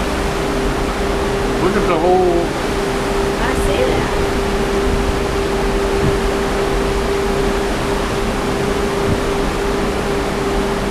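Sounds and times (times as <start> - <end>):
gale-force wind rushing: 0.0 - 10.4
sea: 0.0 - 10.9.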